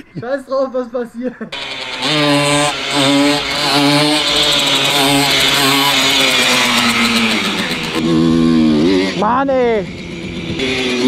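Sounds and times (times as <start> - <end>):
moped engine revving: 1.5 - 11.0.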